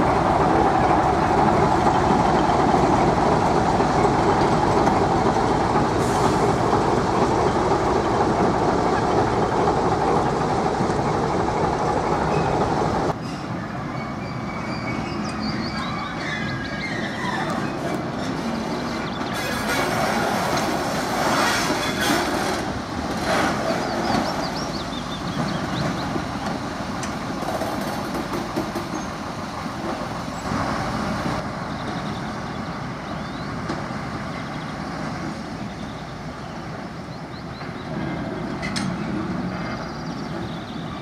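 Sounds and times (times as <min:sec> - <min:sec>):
diesel locomotive running: 0:00.0 - 0:41.0.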